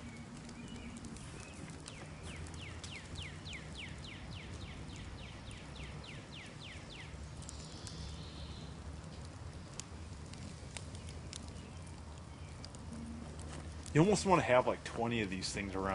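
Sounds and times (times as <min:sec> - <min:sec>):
embers clicking: 0:00.0 - 0:15.9.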